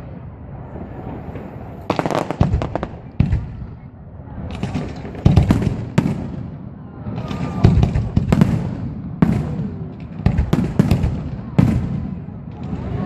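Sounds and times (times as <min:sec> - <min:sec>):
fireworks bursting with bangs: 0:00.0 - 0:13.0.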